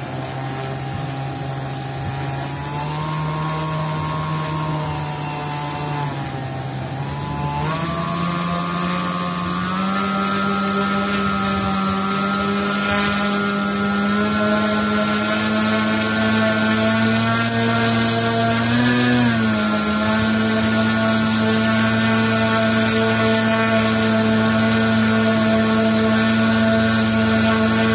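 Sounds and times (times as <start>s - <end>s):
electric motor whine: 0.0s - 27.9s.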